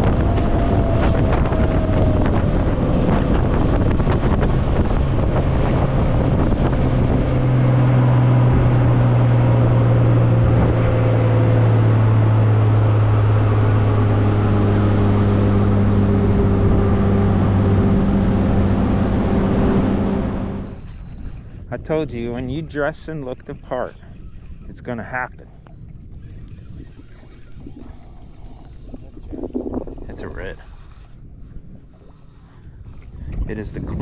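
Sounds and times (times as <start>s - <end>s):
outboard boat engine running: 0.0s - 34.0s
wind buffeting microphone: 0.0s - 34.0s.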